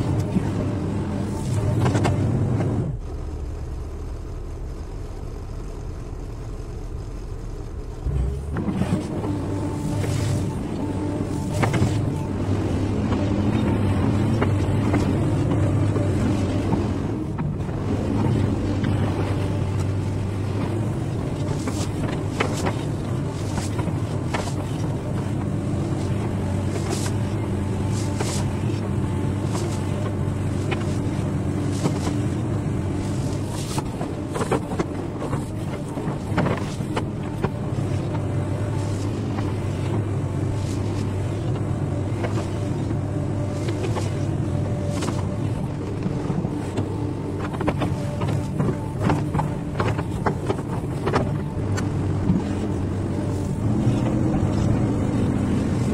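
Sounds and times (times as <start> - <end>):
excavator diesel engine under load: 0.0 - 55.9.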